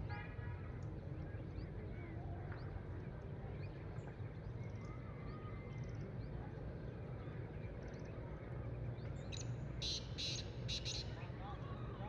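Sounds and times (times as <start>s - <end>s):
small birds chirping and trilling: 0.7s - 12.0s.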